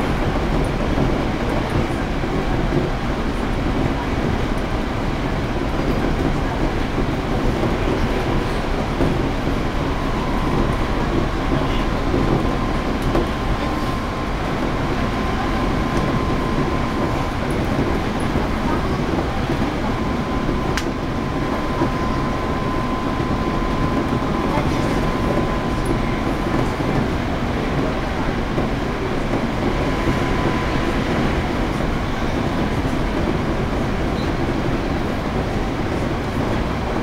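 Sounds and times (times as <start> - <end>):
train wheels rumbling: 0.0 - 37.0.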